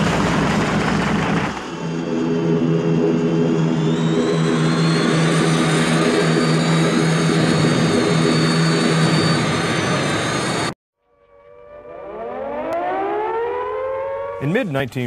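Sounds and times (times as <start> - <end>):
propeller aircraft droning: 0.0 - 15.0
air-raid siren winding up: 1.5 - 14.6.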